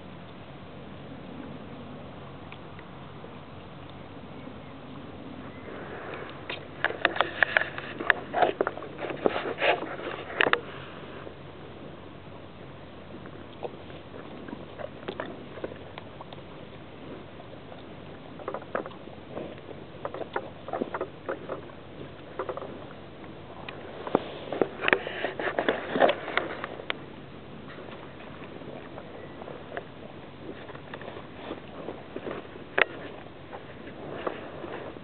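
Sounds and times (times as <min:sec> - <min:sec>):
cattle tearing grass and chewing: 0:04.8 - 0:35.0.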